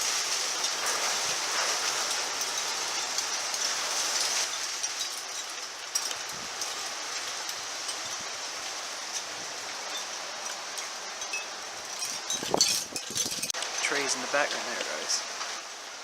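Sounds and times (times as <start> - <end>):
raindrops ticking: 0.0 - 15.6
rain pouring: 0.0 - 16.0.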